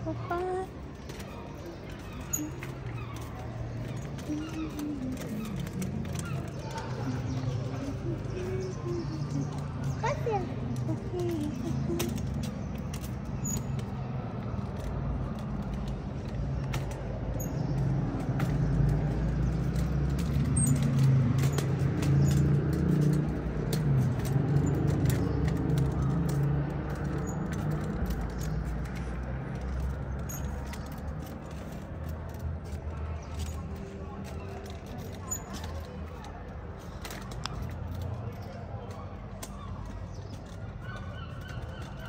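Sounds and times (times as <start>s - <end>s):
vehicle engine hum: 0.0s - 42.0s.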